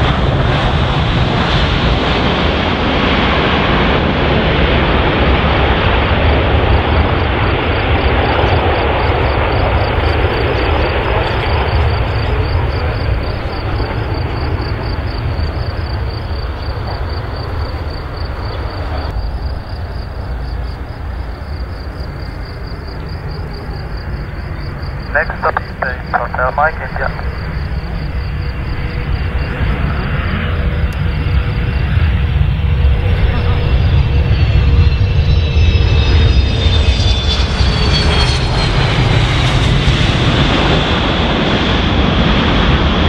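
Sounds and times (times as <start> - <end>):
jet engines roaring: 0.0 - 43.0.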